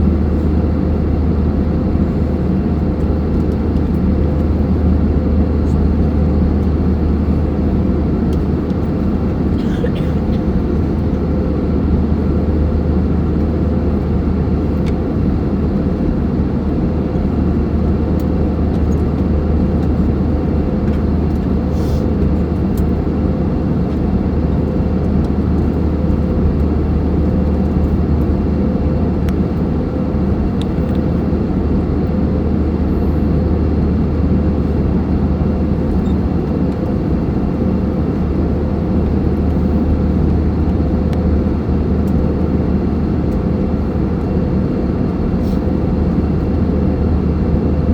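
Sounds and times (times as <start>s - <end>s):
airliner engine roar: 0.0s - 47.9s.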